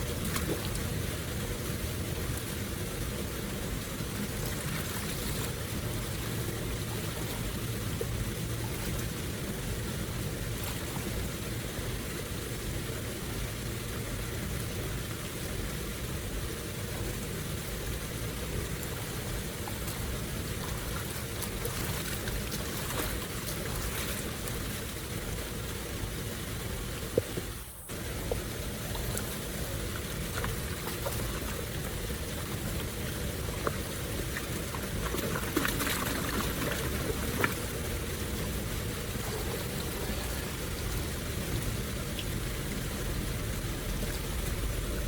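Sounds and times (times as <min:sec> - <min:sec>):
flowing water rushing: 0:00.0 - 0:45.0.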